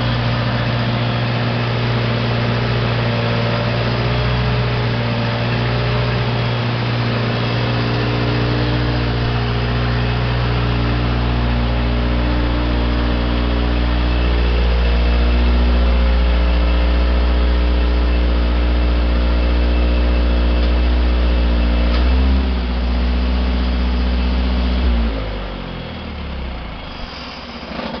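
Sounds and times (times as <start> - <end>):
generator engine running: 0.0 - 28.0.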